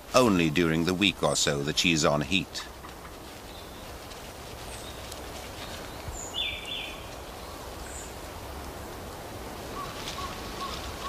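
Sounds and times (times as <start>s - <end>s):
steady hiss and low rumble: 0.0s - 11.0s.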